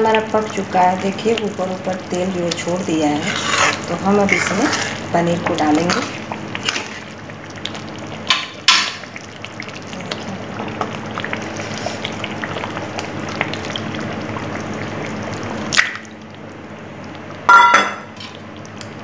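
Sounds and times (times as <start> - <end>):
gravy sizzling and bubbling: 0.0 - 19.0.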